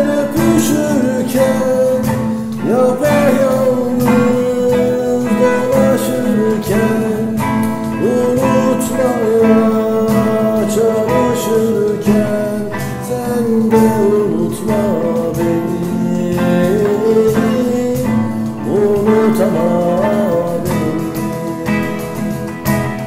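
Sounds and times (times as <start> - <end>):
cajon beat: 0.0 - 23.0
man singing slow melody: 0.0 - 23.0
strummed acoustic guitar: 0.0 - 23.0.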